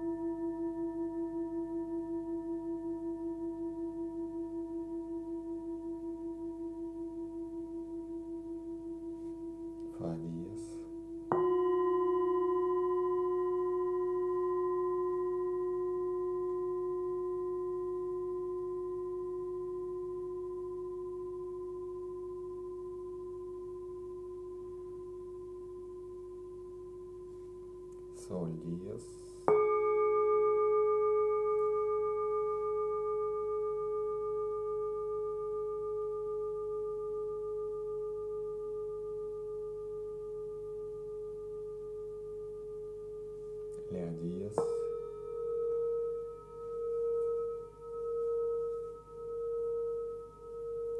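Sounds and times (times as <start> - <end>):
high singing bowl ringing: 0.0 - 50.9
low singing bowl ringing: 0.0 - 50.9.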